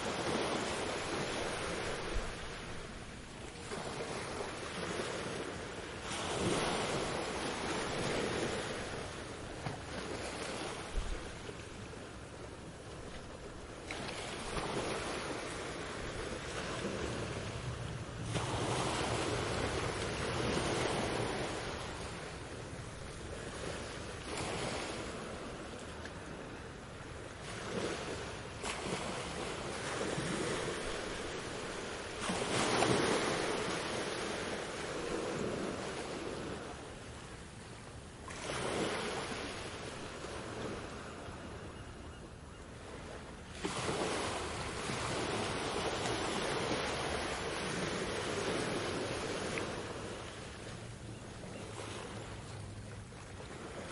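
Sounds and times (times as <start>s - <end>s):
sea waves breaking on beach: 0.0s - 41.8s, 42.8s - 53.9s.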